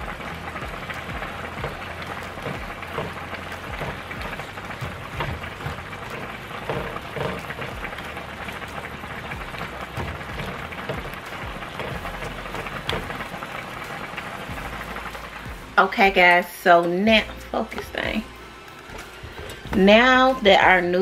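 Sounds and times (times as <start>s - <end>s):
shrimp sizzling in frying pan: 0.0s - 21.0s.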